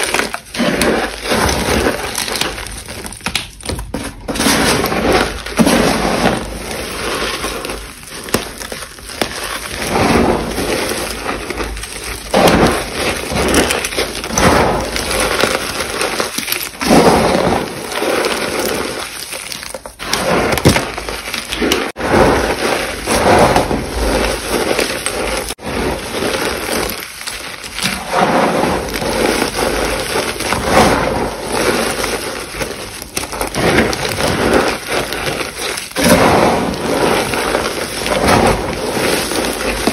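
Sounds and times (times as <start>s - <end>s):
chalk crunching in hand: 0.0s - 39.9s.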